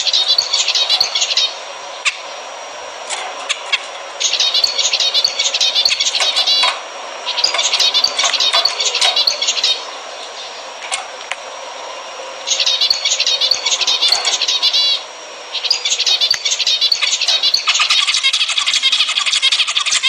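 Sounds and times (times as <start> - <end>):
finches chirping and calling: 0.0 - 20.0.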